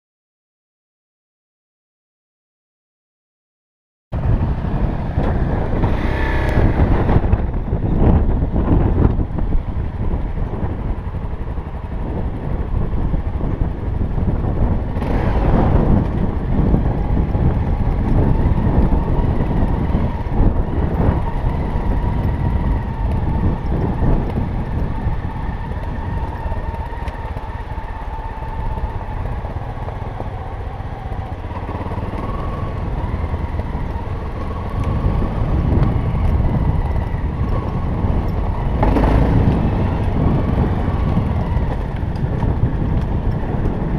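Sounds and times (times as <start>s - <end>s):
wind rumble on microphone: 4.1s - 43.9s
motorcycle engine running: 4.2s - 43.9s.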